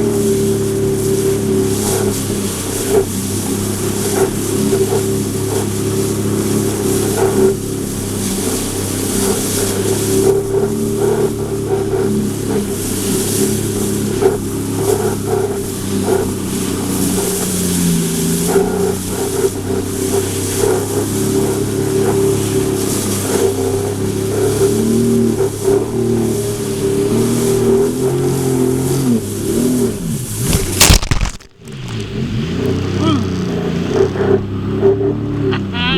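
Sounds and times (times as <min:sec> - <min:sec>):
watercraft engine running: 0:00.0 - 0:35.9.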